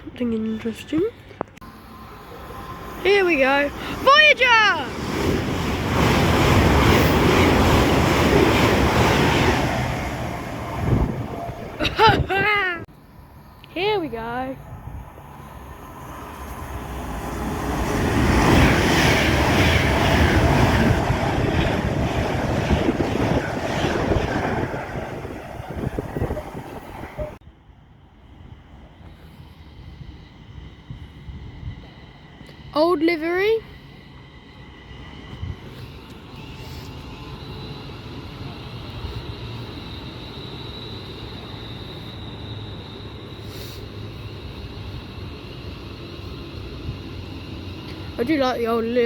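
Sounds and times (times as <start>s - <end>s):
train passing at speed: 0.0s - 49.0s.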